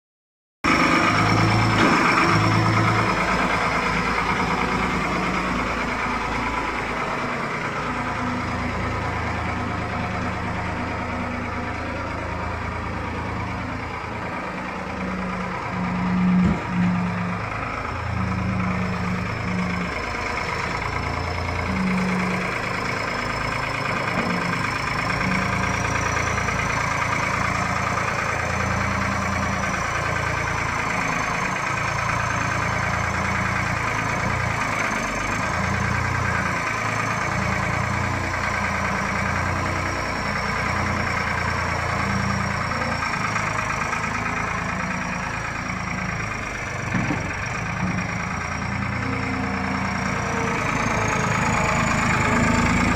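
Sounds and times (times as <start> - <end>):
diesel engine running: 0.6 - 52.9.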